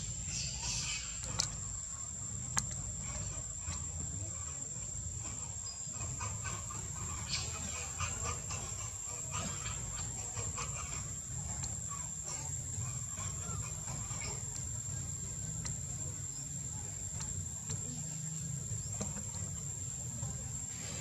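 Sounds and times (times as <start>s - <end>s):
constant low rumble: 0.0s - 21.0s.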